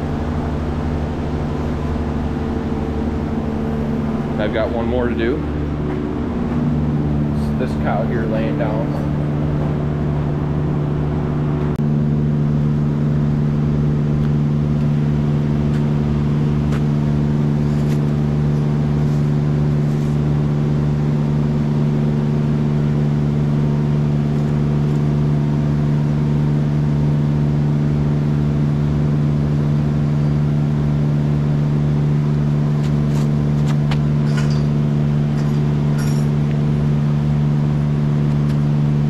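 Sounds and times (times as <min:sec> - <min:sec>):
machinery humming: 0:00.0 - 0:39.0.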